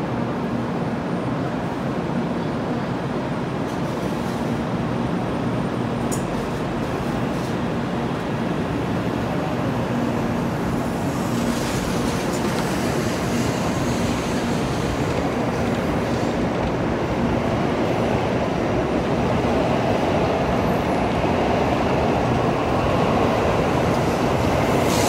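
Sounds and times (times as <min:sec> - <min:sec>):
train rumbling slowly: 0:00.0 - 0:25.0.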